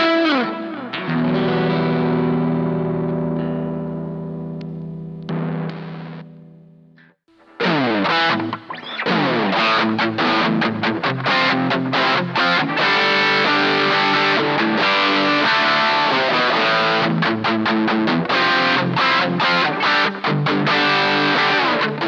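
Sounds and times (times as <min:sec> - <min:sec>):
overdriven electric guitar chords: 0:00.0 - 0:22.0.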